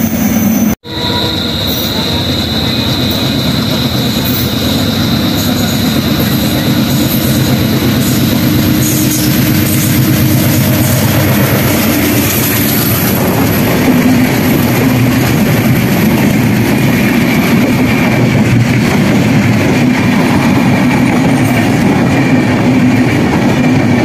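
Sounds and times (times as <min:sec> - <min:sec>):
diesel train rumbling past: 0:00.0 - 0:24.0.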